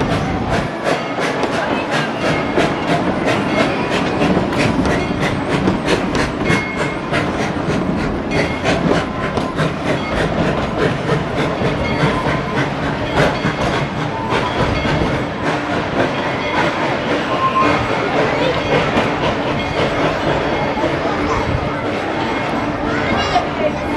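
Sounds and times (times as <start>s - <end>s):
train wheels clicking over rail joints: 0.0s - 22.8s.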